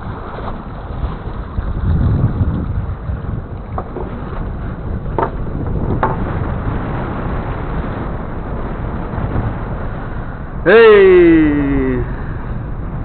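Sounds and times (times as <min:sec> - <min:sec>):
sea noise: 0:00.0 - 0:13.0
wind rumbling on microphone: 0:00.0 - 0:13.0.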